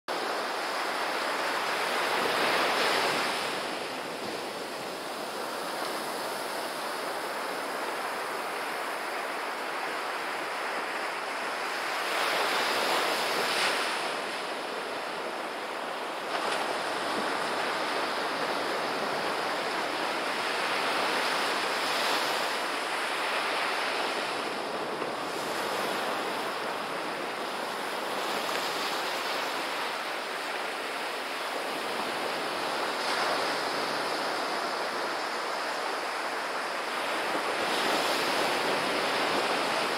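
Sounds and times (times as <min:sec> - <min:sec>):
ocean waves washing up beach: 0:00.1 - 0:39.9.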